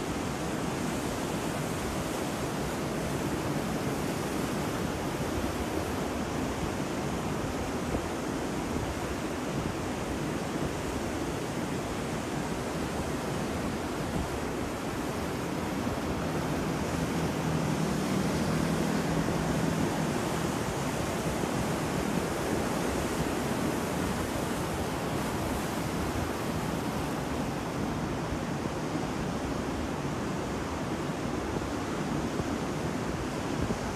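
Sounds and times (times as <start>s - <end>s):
rushing water: 0.0s - 33.9s
wind roaring: 0.0s - 33.9s.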